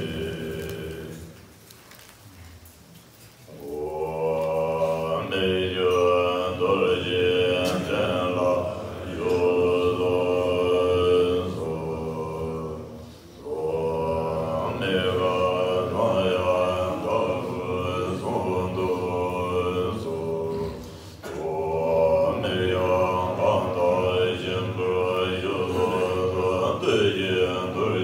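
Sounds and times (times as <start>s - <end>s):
voices chanting mantra: 0.0s - 1.5s, 3.5s - 28.0s.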